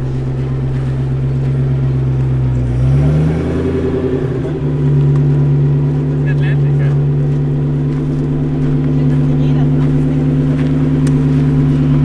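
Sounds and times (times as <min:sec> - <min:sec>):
car engine pulling away: 0:00.0 - 0:12.0.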